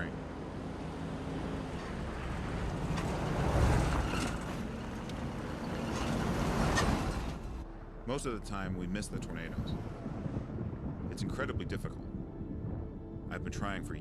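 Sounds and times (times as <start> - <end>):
vehicle driving on road: 0.0 - 14.0.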